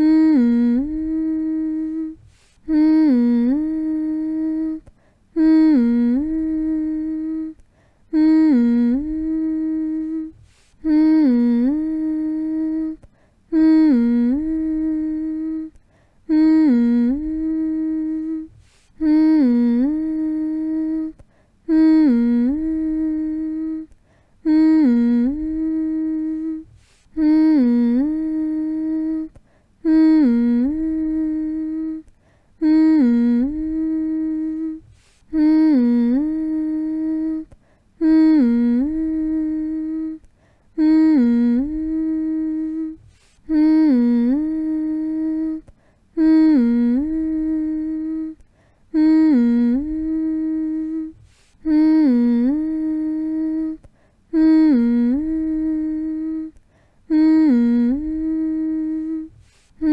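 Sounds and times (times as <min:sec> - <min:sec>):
person humming: 0:00.0 - 0:59.9.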